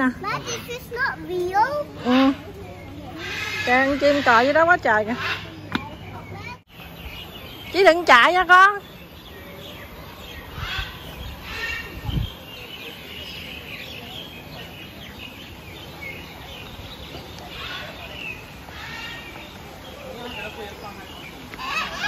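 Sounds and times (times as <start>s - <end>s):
birds chirping and calling: 0.0s - 22.0s
faint chatter of people: 0.0s - 22.0s.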